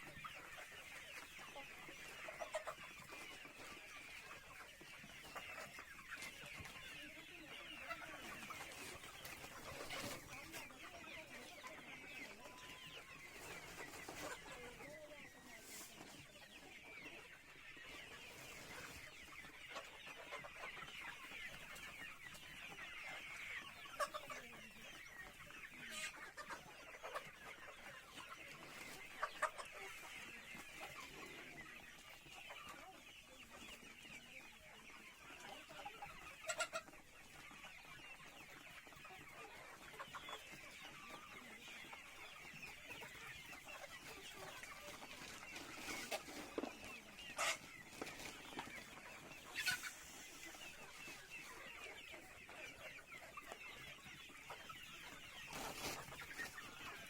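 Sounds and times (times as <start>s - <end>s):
poultry clucking and chirping: 0.0s - 57.0s.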